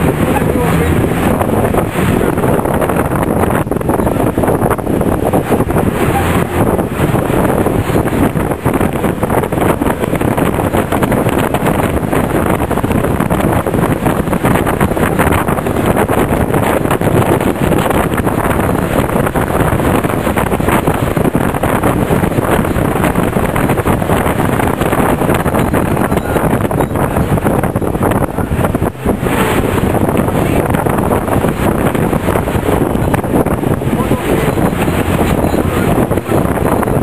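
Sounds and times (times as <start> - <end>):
moving vehicle running noise: 0.0 - 37.0
wind buffeting microphone: 0.0 - 37.0.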